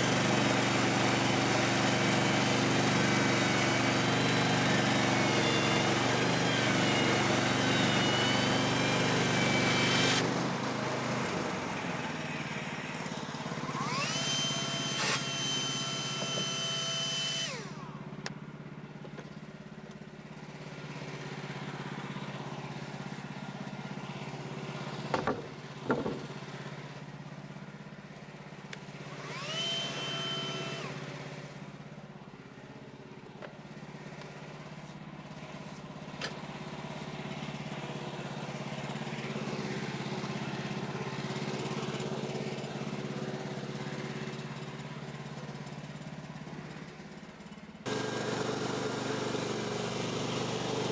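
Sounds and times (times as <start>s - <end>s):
small gas engine running: 0.0s - 50.9s.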